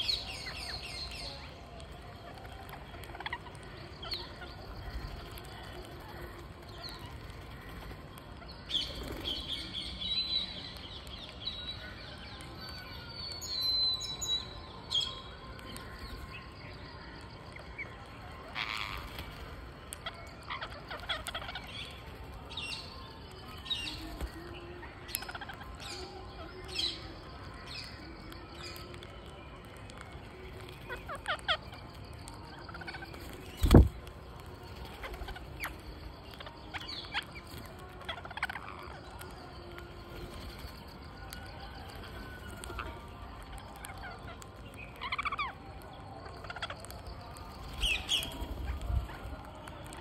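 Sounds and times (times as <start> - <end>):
birds calling: 0.0 - 12.6, 13.2 - 50.0.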